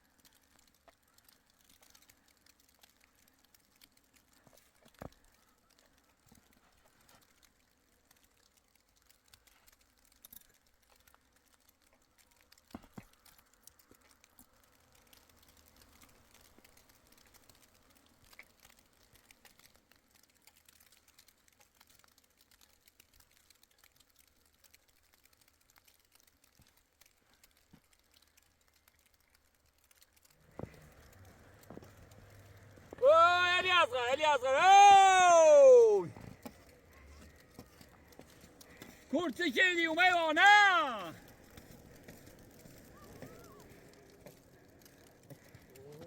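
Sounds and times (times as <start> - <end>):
faint ticks and crackles: 0.0 - 46.0.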